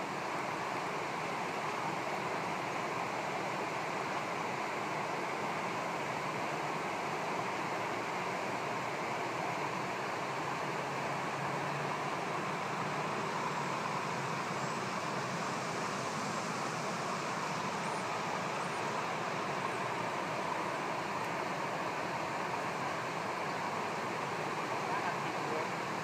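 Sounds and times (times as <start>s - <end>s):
river rushing over rocks: 0.0s - 26.0s.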